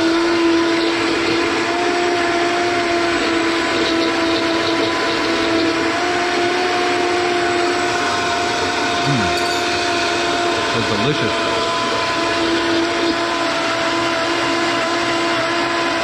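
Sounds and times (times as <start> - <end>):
blender motor whine: 0.0 - 16.0.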